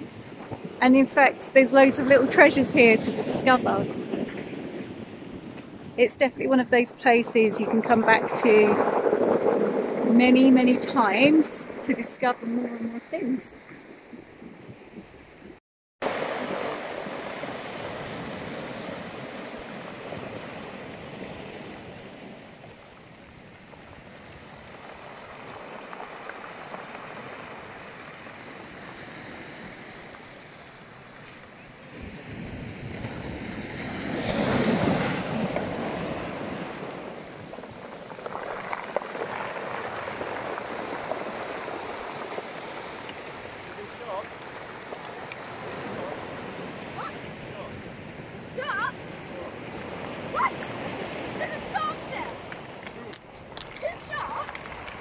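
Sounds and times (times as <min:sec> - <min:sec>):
surf washing over pebbles: 0:07.0 - 0:13.0, 0:16.0 - 0:55.0.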